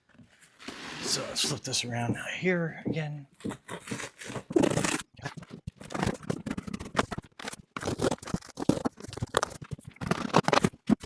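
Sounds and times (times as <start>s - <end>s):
cardboard packaging scraping: 0.4s - 1.6s, 3.4s - 11.0s.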